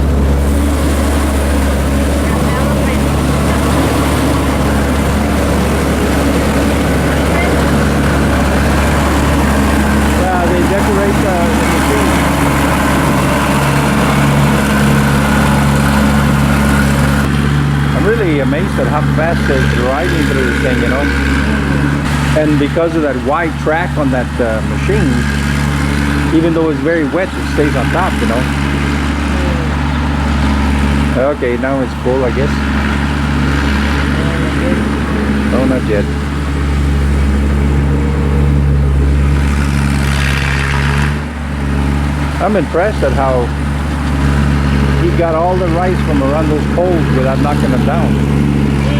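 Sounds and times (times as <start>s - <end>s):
combine harvester engine hum: 0.0s - 48.9s.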